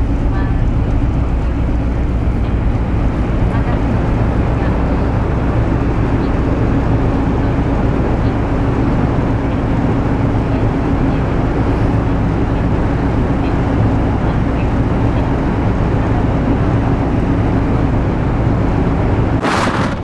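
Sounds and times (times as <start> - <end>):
ferry machinery droning: 0.0 - 20.0.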